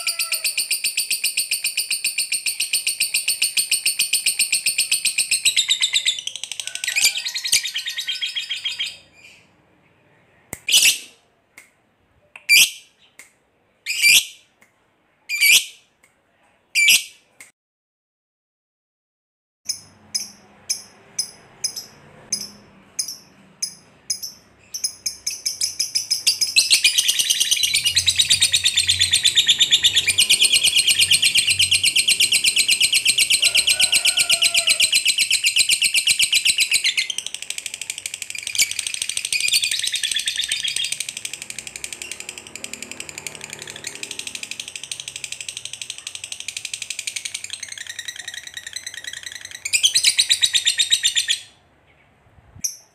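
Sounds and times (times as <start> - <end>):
lovebird chirping and chattering: 0.0 - 9.5, 10.5 - 11.1, 12.4 - 13.2, 13.9 - 14.4, 15.3 - 15.8, 16.8 - 17.2, 19.7 - 51.6.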